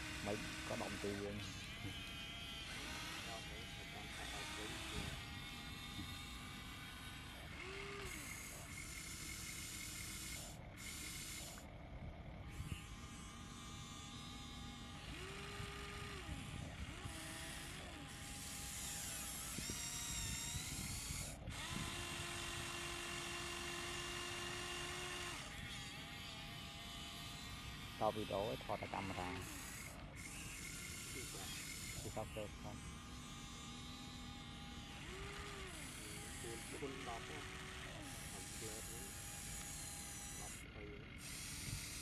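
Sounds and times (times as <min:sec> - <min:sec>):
small electric motors whining: 0:00.0 - 0:42.0.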